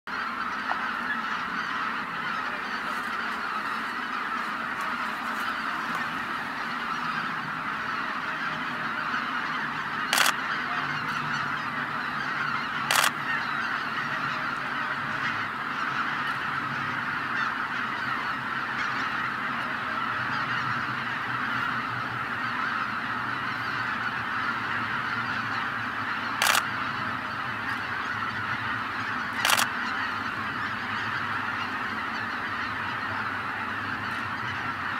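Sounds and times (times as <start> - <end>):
flock of geese honking: 0.1 - 34.9.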